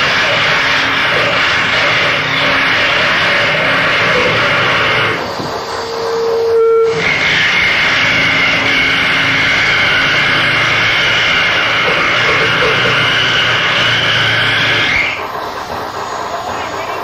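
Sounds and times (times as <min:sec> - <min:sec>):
steady whining tones: 0:00.0 - 0:17.0.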